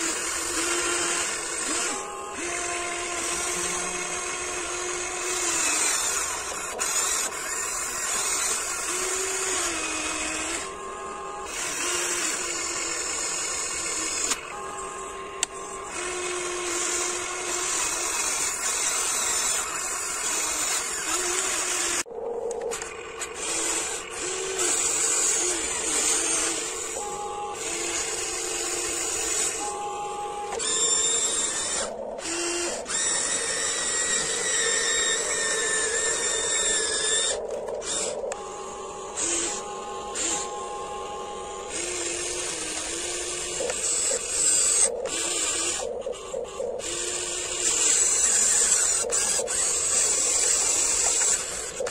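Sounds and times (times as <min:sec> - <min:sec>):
toy excavator motors whining: 0:00.0 - 0:51.9.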